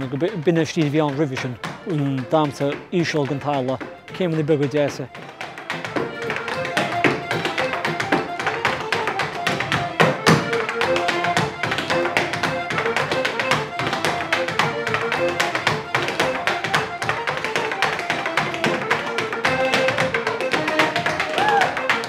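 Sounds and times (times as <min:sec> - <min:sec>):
dancer's shoes stepping on floor: 0:00.0 - 0:22.0
button accordion playing: 0:00.2 - 0:22.0.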